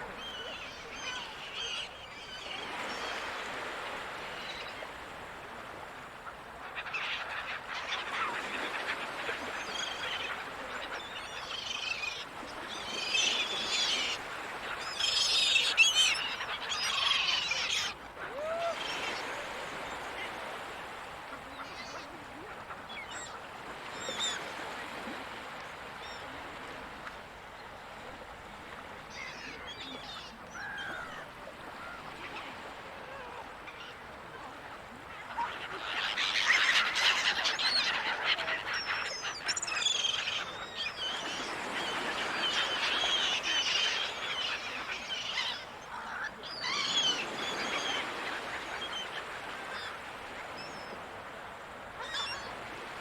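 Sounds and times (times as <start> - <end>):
seagulls calling: 0.0 - 25.4, 29.1 - 51.1
ocean waves: 0.0 - 53.0.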